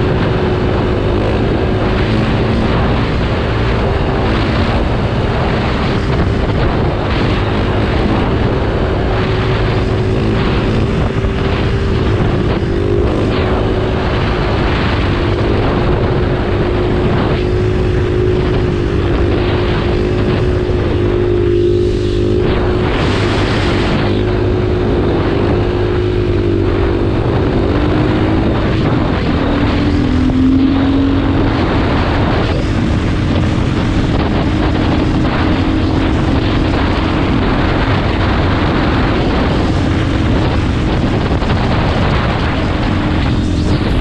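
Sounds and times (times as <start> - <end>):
motorcycle engine running: 0.0 - 44.0
wind noise on microphone: 0.0 - 44.0.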